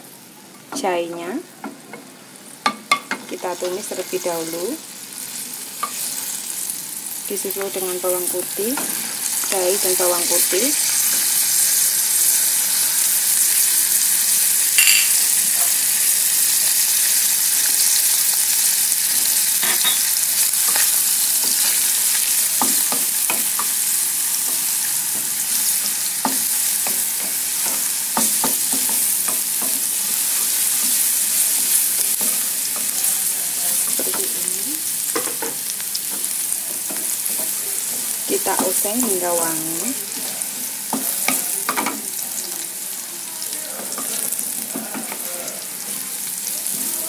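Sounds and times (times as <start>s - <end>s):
garlic sizzling in hot oil: 0.2s - 47.0s.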